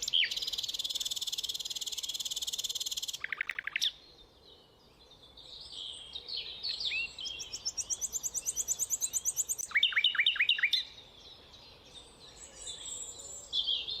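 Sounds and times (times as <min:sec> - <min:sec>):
nightingale singing: 0:00.0 - 0:14.0.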